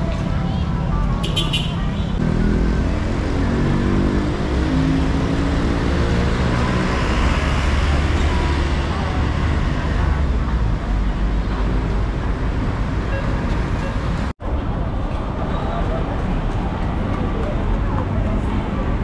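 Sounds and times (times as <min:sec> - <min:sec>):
rumble of passing vehicles: 0:00.0 - 0:19.0.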